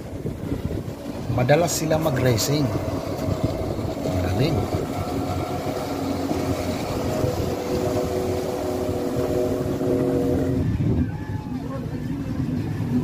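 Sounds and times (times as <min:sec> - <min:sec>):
jet ski engines whining: 0:00.0 - 0:13.0.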